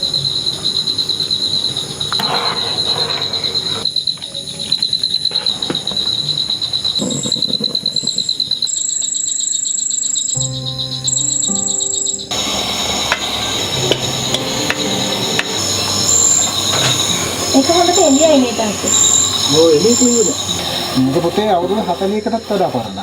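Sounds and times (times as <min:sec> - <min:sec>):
insects pulsing chirr: 0:00.0 - 0:23.0
high-pitched insect buzz: 0:02.8 - 0:23.0.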